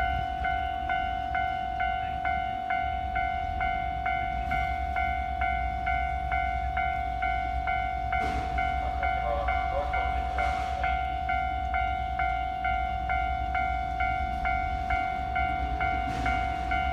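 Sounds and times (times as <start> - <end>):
level-crossing warning bell clanging: 0.0 - 16.9.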